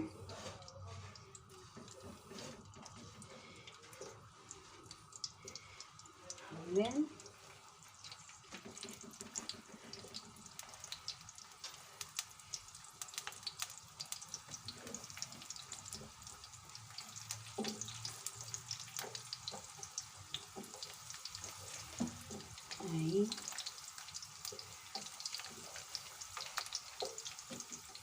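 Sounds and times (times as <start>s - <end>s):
garlic sizzling in hot oil: 0.0s - 28.0s.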